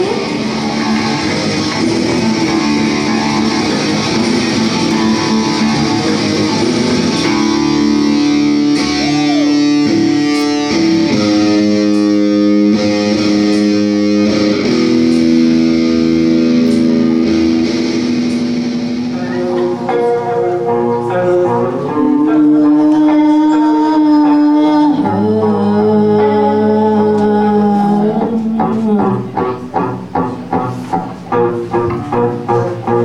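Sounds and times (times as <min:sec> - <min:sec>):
live band with electric guitar: 0:00.0 - 0:33.0.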